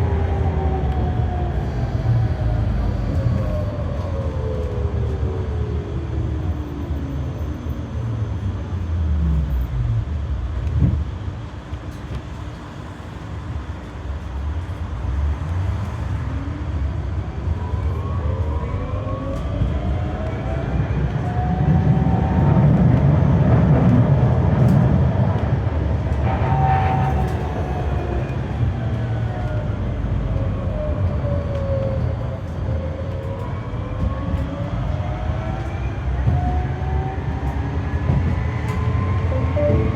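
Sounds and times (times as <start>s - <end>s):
tram motor whine: 0.0s - 14.1s, 14.9s - 39.9s
wheels rumbling on rail: 0.0s - 39.9s.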